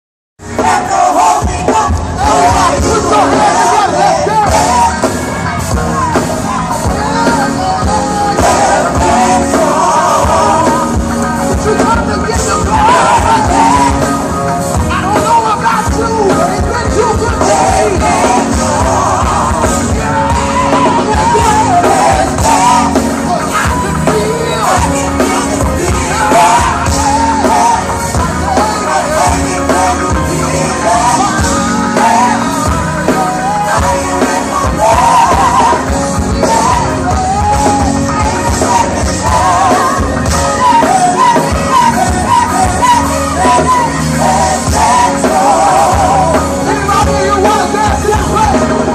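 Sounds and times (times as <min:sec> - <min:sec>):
backing band playing: 0:00.4 - 0:48.9
choir singing: 0:00.4 - 0:48.9.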